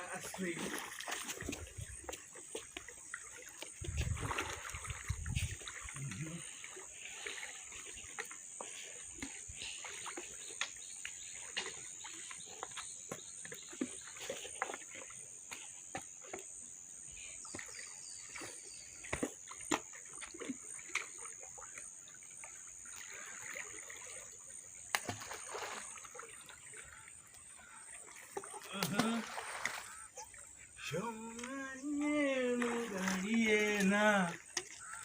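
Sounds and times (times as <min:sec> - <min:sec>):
stream trickling: 0:00.0 - 0:35.0
water splashing from wading: 0:00.0 - 0:35.0.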